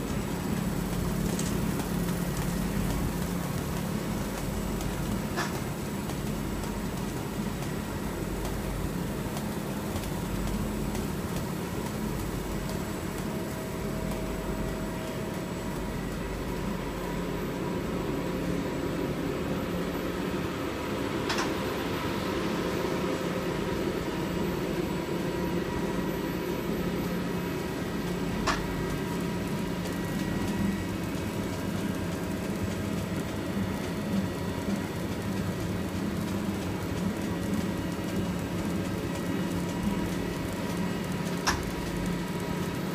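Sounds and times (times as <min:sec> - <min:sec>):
embossing machine humming: 0:00.0 - 0:42.9.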